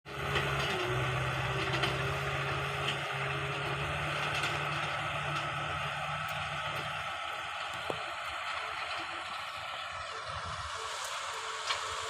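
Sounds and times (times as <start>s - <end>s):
farm machine engine humming: 0.1s - 12.0s.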